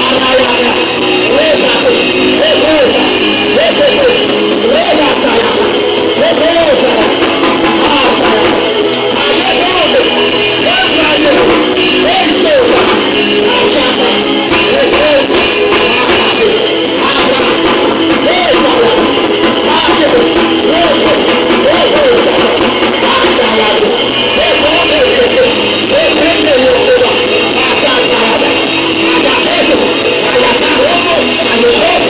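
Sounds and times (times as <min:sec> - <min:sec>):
band with guitar: 0:00.0 - 0:32.0
person singing: 0:00.0 - 0:32.0.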